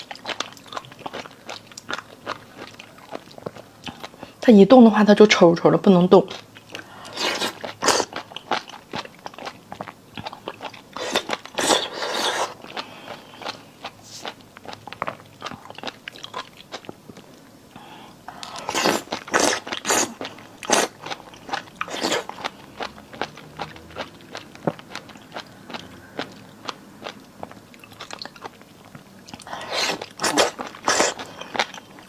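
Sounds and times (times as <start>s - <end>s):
crunchy chewing: 0.0s - 4.4s, 6.3s - 32.0s.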